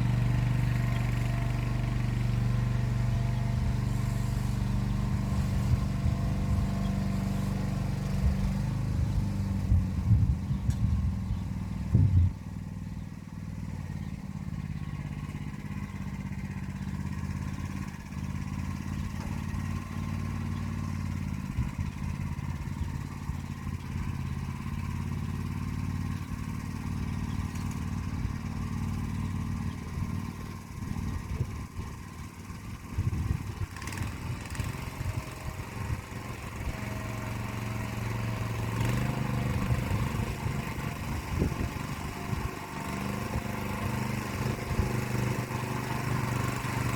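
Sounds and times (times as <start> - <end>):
walk-behind tractor engine running: 0.0 - 46.9.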